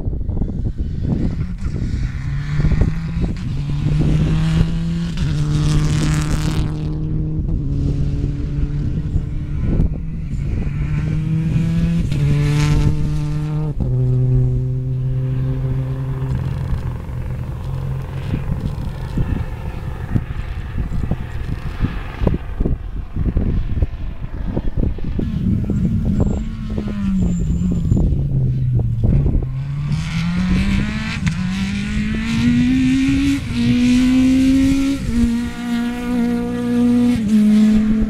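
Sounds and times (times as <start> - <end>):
rally car engine running hard: 0.4 - 38.0.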